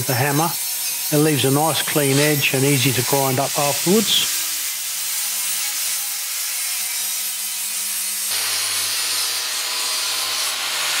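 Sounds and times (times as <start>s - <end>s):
angle grinder grinding steel: 0.0s - 11.0s.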